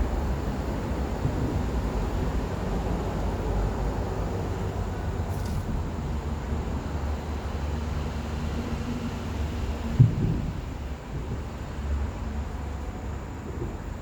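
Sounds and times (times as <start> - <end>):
traffic rumble on bridge: 0.0 - 14.0.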